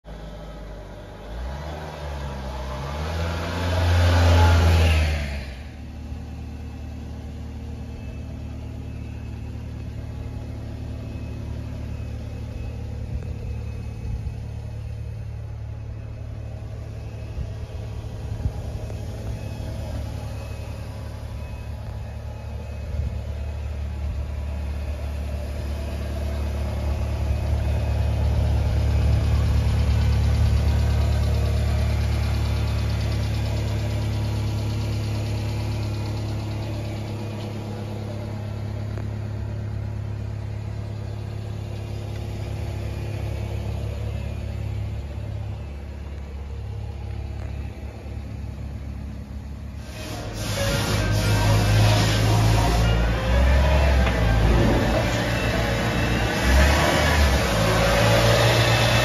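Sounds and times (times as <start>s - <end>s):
truck engine idling: 0.0s - 59.0s
truck engine starting and revving: 0.0s - 59.0s.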